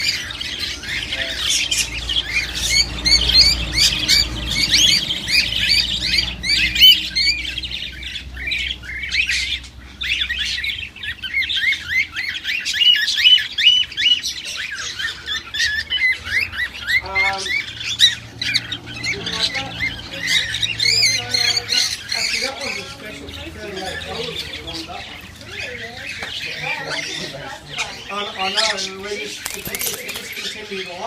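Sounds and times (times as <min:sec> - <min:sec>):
parrots chirping and squawking: 0:00.0 - 0:31.0.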